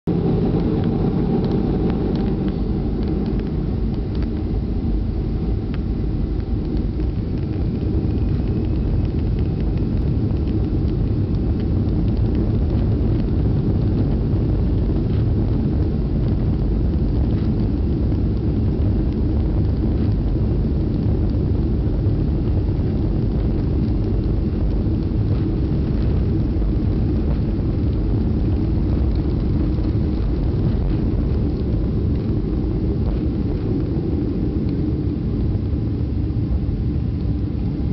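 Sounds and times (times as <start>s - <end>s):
jet engines and runway rumble: 0.0s - 37.9s.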